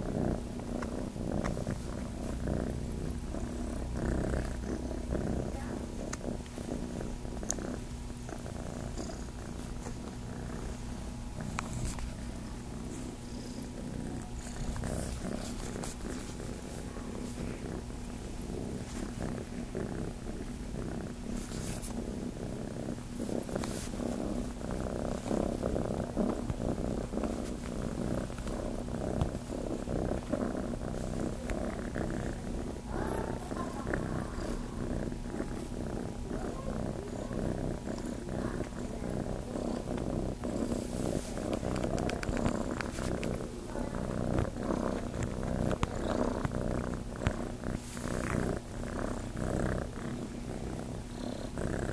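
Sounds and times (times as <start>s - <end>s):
kitten purring: 0.0s - 51.9s.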